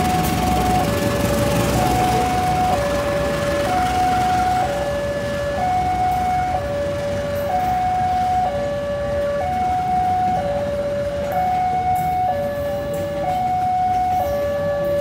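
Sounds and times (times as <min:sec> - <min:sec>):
traffic-like background noise: 0:00.0 - 0:15.0
two-tone warning siren: 0:00.0 - 0:15.0.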